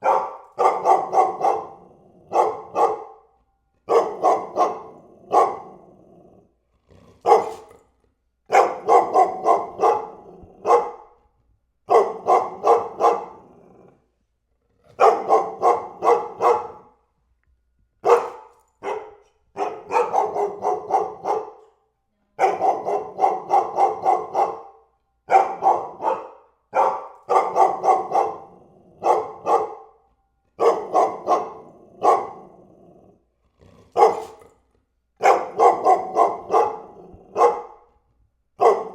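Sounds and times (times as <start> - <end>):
dog barking: 0.0 - 5.9, 7.2 - 7.8, 8.5 - 11.2, 11.8 - 13.6, 15.0 - 17.0, 18.0 - 32.6, 33.9 - 34.5, 35.2 - 37.9, 38.6 - 38.9.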